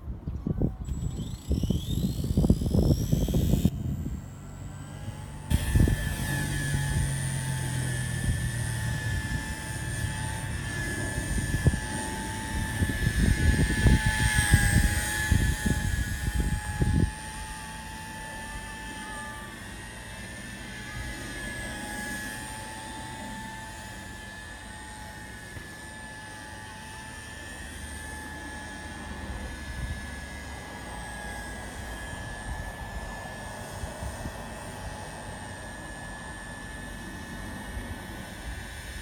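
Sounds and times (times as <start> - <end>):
rc helicopter motor whine: 0.0 - 39.0.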